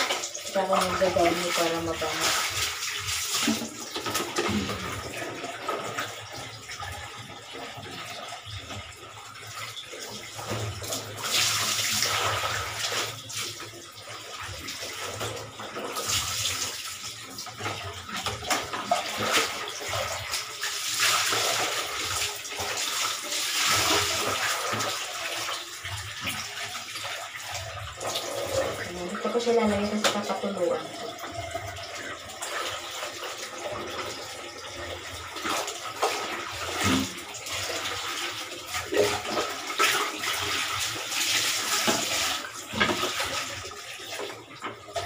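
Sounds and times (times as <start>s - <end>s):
water sloshing and splashing: 0.0s - 45.0s.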